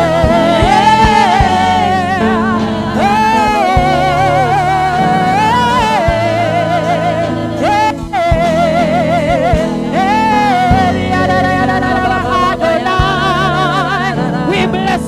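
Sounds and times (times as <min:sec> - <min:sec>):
bass: 0:00.0 - 0:15.0
keyboard chords: 0:00.0 - 0:15.0
person singing with vibrato: 0:00.0 - 0:15.0.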